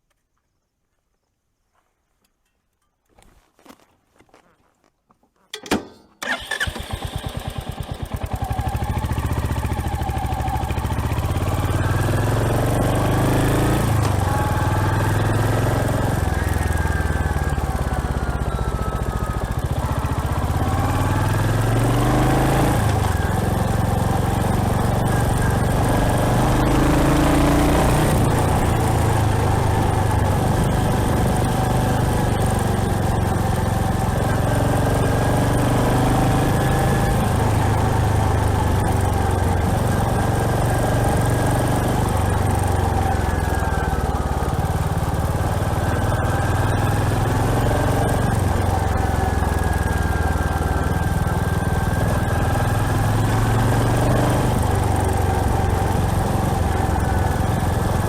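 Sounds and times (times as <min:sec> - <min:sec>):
motorcycle engine starting and running: 0:05.5 - 0:58.0.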